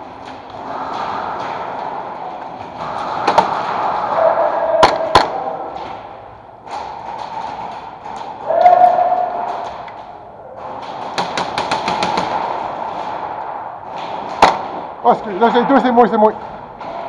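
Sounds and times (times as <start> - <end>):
indoor arena din: 0.0 - 17.0.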